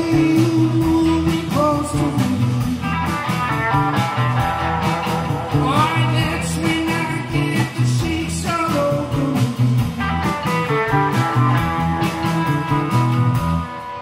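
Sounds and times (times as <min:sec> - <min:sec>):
electric guitar bent notes: 0:00.0 - 0:14.0
live blues band: 0:00.0 - 0:14.0.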